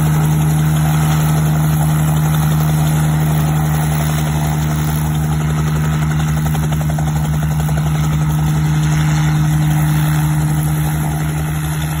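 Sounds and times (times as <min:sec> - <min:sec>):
helicopter rotor thumping: 0:00.0 - 0:12.0
piston engine humming: 0:00.0 - 0:12.0.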